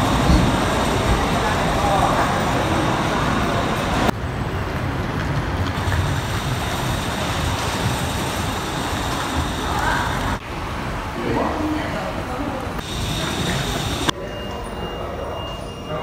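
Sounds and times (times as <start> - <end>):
road traffic din: 0.0 - 15.8.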